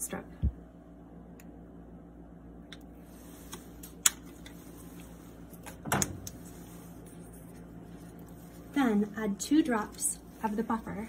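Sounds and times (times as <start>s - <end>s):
cabinet fan humming: 0.0s - 11.0s.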